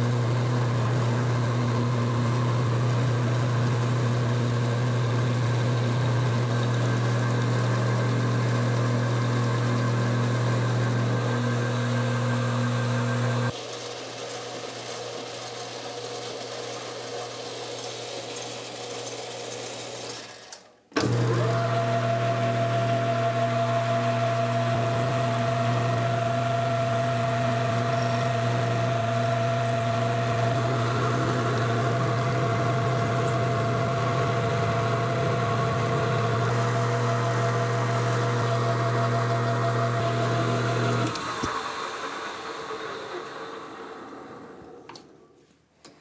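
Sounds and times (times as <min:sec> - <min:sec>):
metal lathe motor hum: 0:00.0 - 0:13.6, 0:21.0 - 0:45.0.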